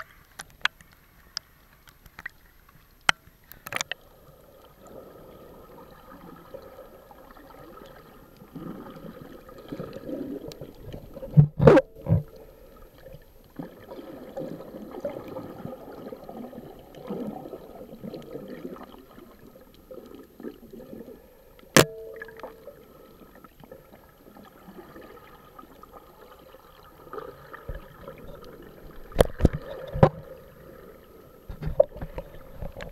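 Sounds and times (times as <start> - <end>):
muffled underwater sloshing: 3.5 - 32.9.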